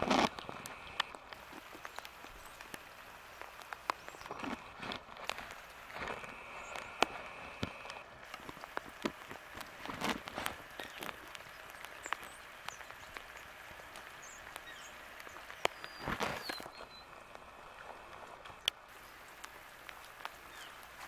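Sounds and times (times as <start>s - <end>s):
rain drops tapping: 0.0s - 21.0s.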